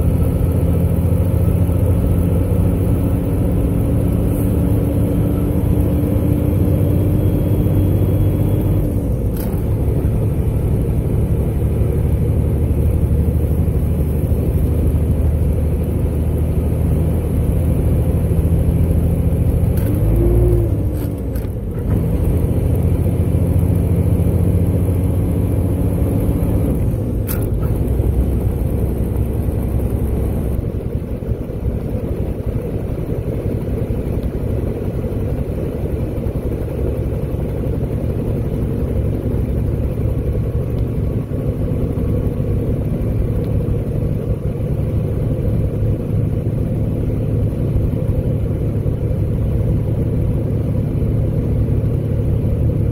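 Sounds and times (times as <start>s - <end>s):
diesel truck engine running: 0.0s - 52.9s.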